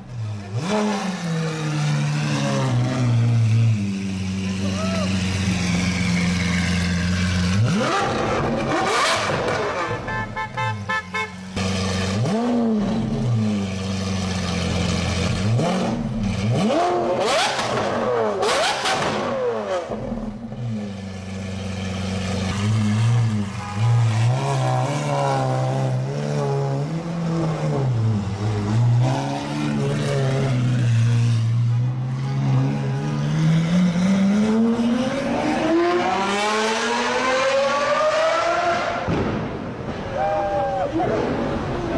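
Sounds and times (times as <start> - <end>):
car engine revving: 0.0 - 10.5, 11.5 - 40.0.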